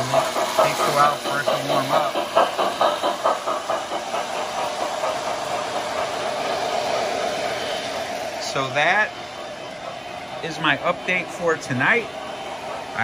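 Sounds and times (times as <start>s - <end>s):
model locomotive chuffing: 0.0s - 13.0s
model trains humming and hissing: 0.0s - 13.0s.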